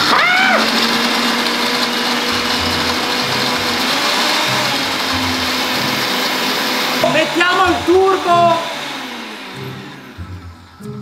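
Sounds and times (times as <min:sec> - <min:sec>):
blender grinding nuts: 0:00.0 - 0:10.8.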